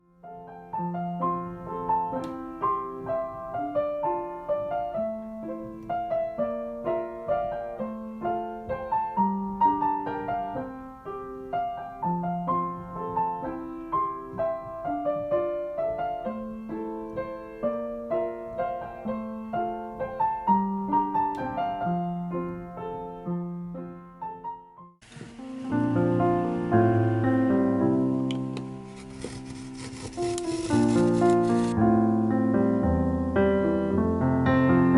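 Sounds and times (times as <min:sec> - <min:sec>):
gentle piano music: 0:00.0 - 0:34.9.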